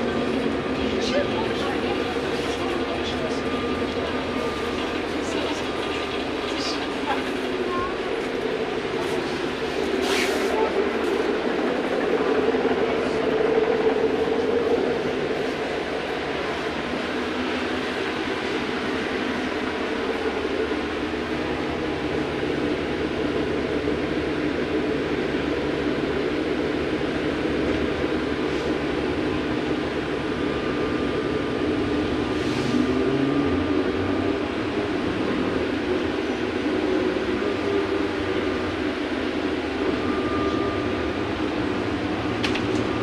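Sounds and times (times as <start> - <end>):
trolleybus cabin running noise: 0.0 - 43.0.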